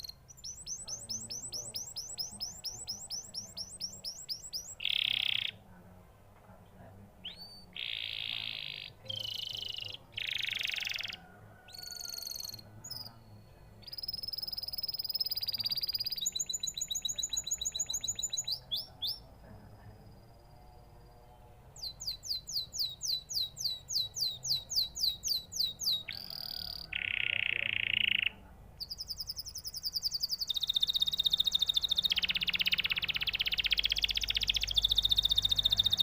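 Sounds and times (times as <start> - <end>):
canary singing: 0.0 - 5.8, 7.2 - 36.0.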